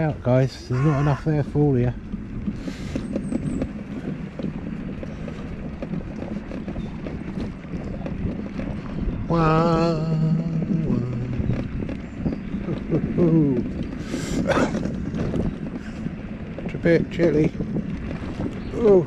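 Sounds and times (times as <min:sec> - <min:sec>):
low rumble: 0:00.0 - 0:19.0
wind buffeting microphone: 0:00.0 - 0:19.0.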